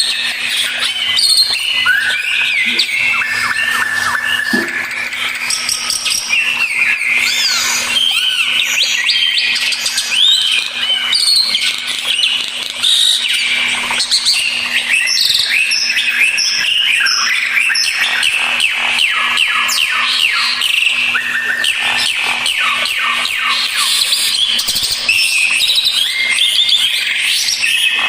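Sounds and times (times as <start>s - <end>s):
starlings singing: 0.0s - 28.0s.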